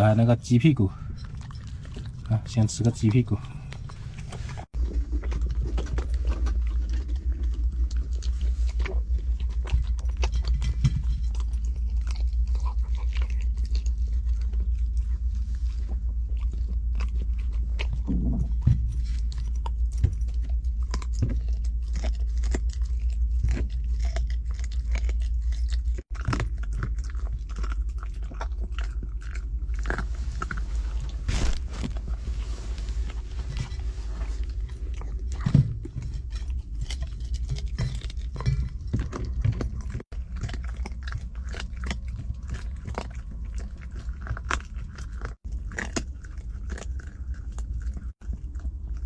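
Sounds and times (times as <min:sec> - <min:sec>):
chewing and crunching chicken bones: 0:00.0 - 0:49.0
steady low hum: 0:00.0 - 0:49.0.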